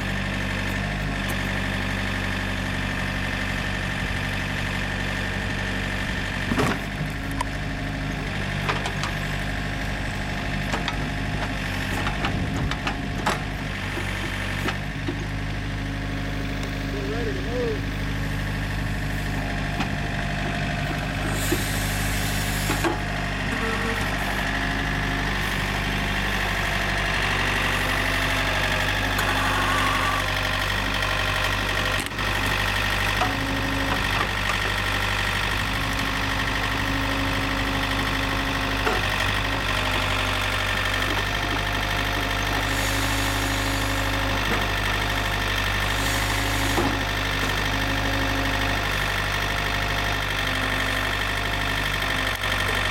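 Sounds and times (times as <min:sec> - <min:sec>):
backhoe engine running: 0:00.0 - 0:52.9.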